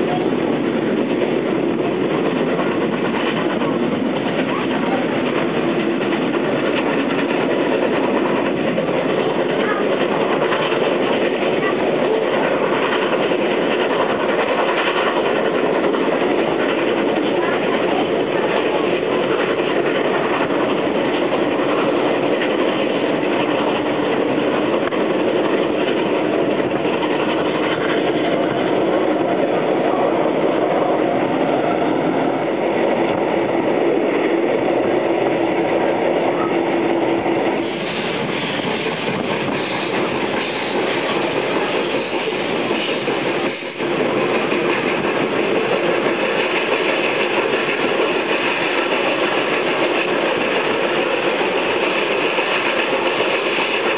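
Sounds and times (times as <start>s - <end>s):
train carriage rattling: 0.0s - 53.9s
train wheels rumbling on rails: 0.0s - 53.9s.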